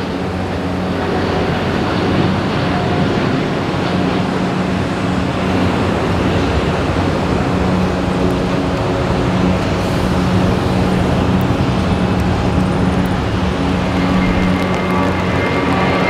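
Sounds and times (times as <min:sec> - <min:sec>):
jet airliner engines running: 0:00.0 - 0:16.0.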